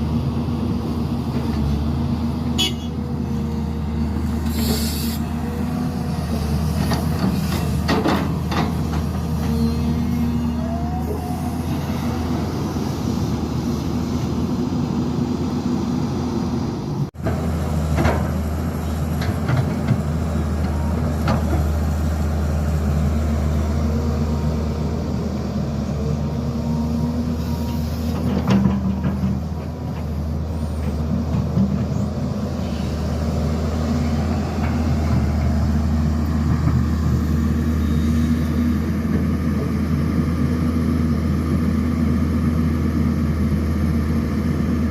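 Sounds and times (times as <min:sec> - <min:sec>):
diesel construction machinery droning: 0:00.0 - 0:44.9.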